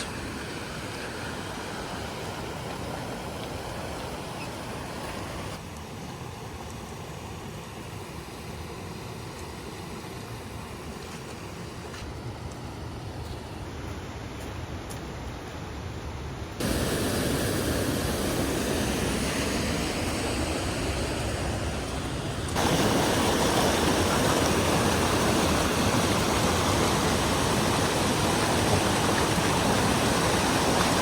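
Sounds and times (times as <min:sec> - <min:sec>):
waterfall and creek rushing: 0:00.0 - 0:12.6, 0:16.6 - 0:31.0.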